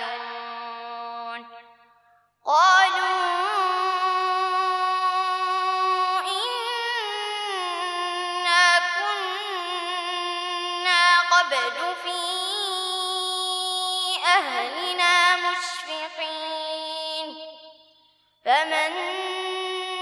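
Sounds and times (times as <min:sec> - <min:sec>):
boy chanting melodically: 0:00.0 - 0:01.8, 0:02.5 - 0:20.0.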